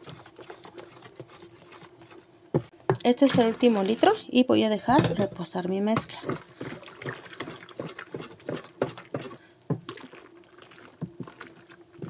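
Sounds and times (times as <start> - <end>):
spatula sloshing soapy water: 0.0 - 12.0.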